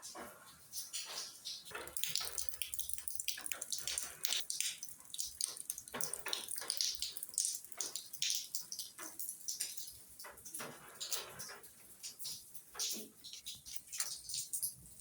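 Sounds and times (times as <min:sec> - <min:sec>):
rain dripping on wet ground: 0:00.8 - 0:15.0.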